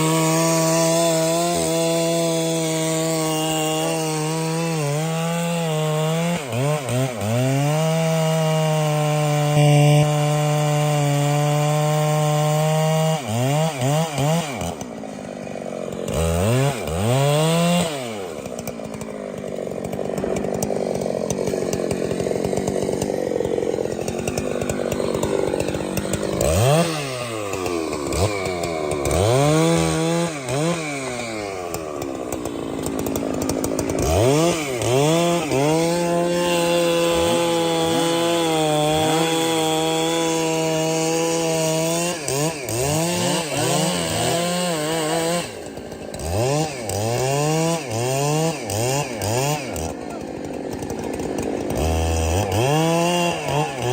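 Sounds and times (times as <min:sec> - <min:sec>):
chainsaw revving and cutting wood: 0:00.0 - 0:53.9.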